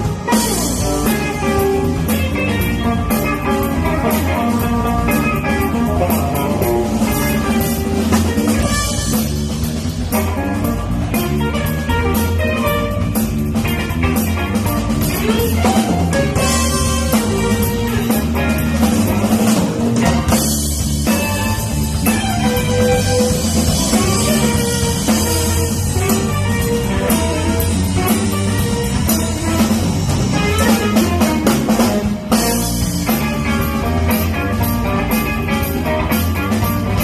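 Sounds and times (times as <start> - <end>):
bass line: 0.0 - 37.0
drum kit: 0.0 - 37.0
electric guitar: 0.0 - 37.0.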